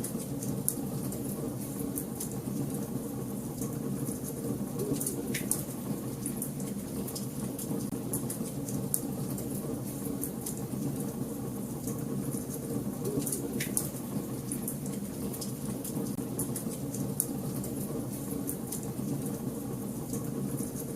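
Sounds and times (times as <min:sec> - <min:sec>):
fire crackling in a fireplace: 0:00.0 - 0:20.9.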